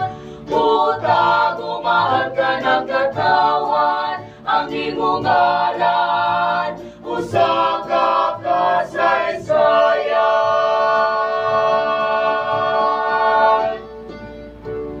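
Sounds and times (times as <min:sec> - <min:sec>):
vocal quartet singing in harmony: 0:00.0 - 0:15.0.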